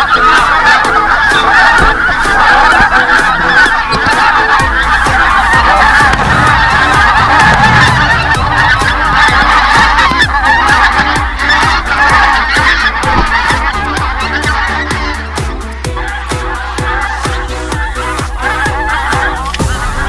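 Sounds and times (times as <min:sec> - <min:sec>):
electronic drum beat: 0:00.0 - 0:20.0
geese honking: 0:00.0 - 0:20.0.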